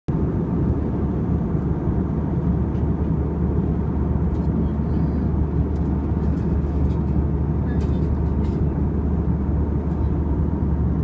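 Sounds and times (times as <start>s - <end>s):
airliner cabin rumble: 0.1s - 11.0s.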